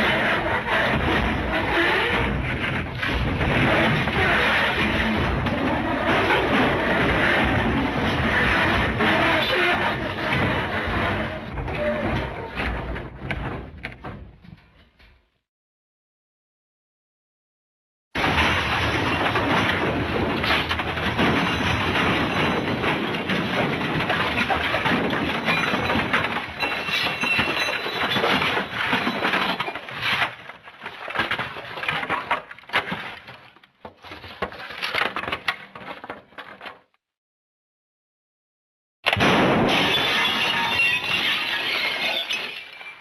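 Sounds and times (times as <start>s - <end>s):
crashing and smashing: 0.0s - 15.0s, 18.2s - 36.9s, 39.1s - 43.0s.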